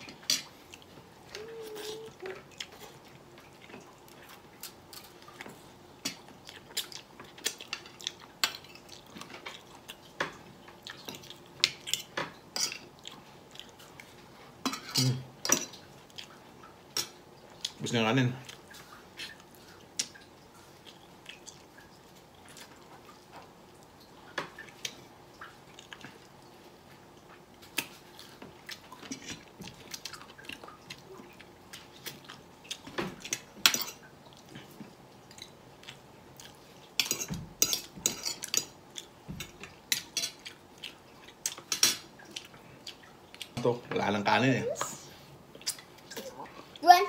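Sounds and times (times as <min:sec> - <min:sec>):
chewing: 0:00.2 - 0:17.8, 0:18.4 - 0:43.6, 0:45.5 - 0:46.8.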